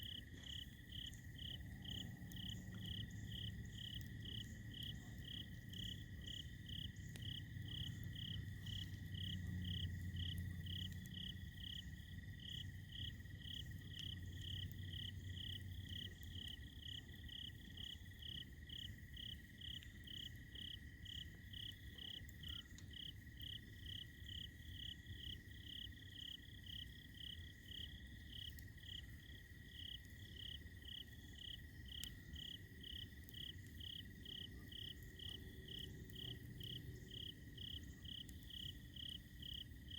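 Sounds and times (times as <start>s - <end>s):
faint low rumble: 0.0s - 25.9s, 26.8s - 39.9s
campfire crackles: 0.0s - 39.9s
cricket chirping: 0.0s - 39.9s
insect steady low trill: 0.0s - 39.9s.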